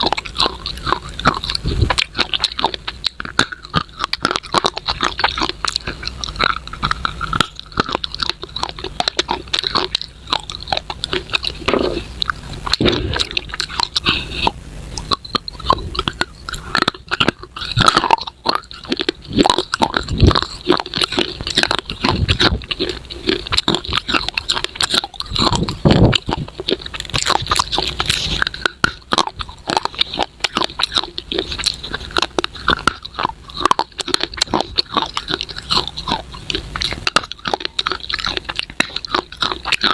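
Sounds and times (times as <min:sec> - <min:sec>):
crunching baked clay: 0:00.0 - 0:39.9.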